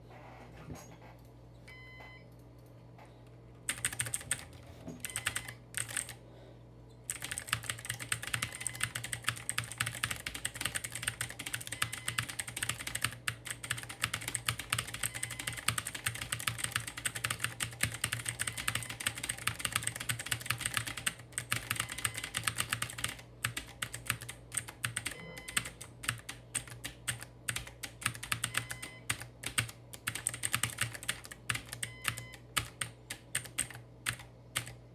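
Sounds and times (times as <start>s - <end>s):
fast typing on clacky keyboard: 3.7s - 6.2s, 7.1s - 34.8s.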